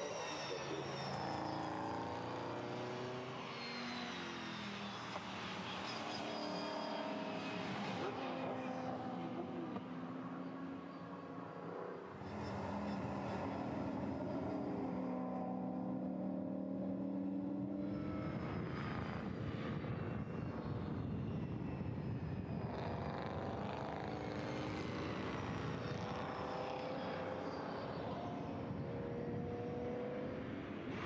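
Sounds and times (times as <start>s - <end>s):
racing car engines revving: 0.0s - 19.9s, 22.6s - 31.0s.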